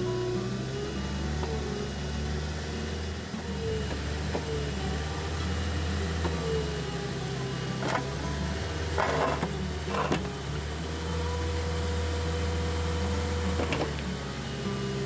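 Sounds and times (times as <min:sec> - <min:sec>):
skid steer engine running: 0:00.0 - 0:15.0.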